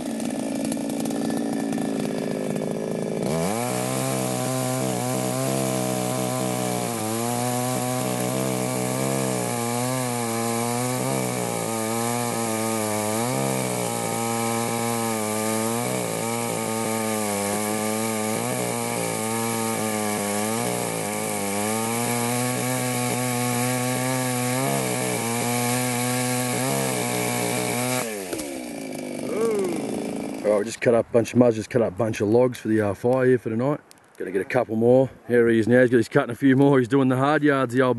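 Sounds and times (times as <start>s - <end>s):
chainsaw cutting logs: 0.0s - 30.9s.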